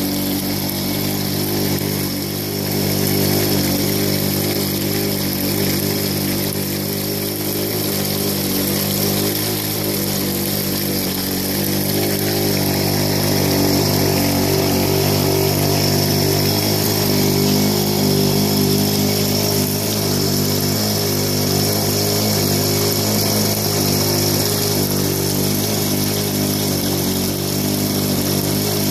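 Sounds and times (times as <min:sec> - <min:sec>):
small engine running: 0:00.0 - 0:28.9
water rushing down sluice box: 0:00.0 - 0:28.9.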